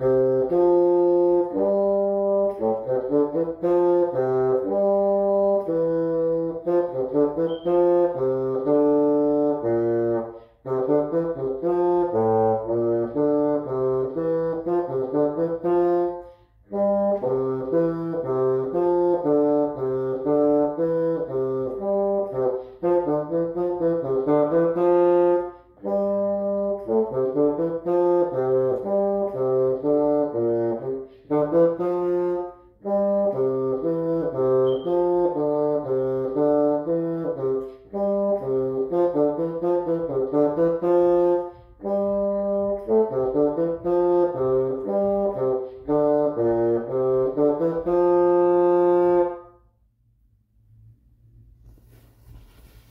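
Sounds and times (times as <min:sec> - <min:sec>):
solo bassoon march melody: 0:00.0 - 0:49.8.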